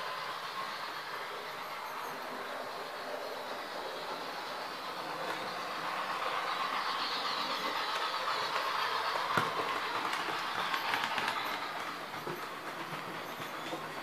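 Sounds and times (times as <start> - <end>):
model train whirring rattle: 0.0 - 14.0.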